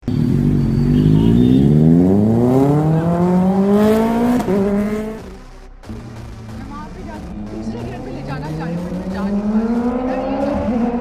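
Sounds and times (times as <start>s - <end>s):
motorcycle accelerating hard: 0.0s - 5.4s, 7.0s - 11.0s.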